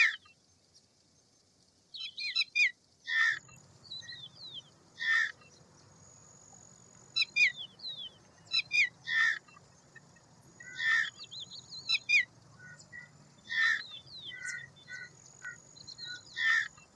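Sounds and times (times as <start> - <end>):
falling bird chirps: 2.0 - 16.9
harsh bird calls: 2.0 - 16.9.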